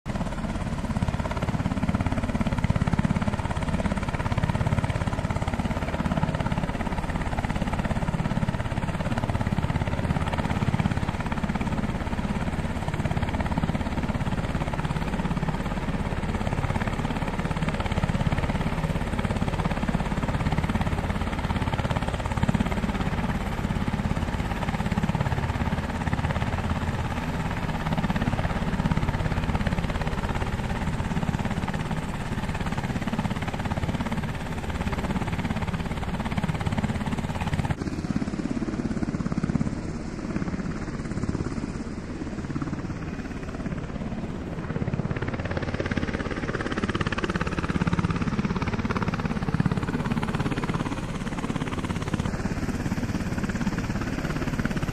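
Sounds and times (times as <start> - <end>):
helicopter engines: 0.1 - 54.9
helicopter rotors beating: 0.1 - 54.9.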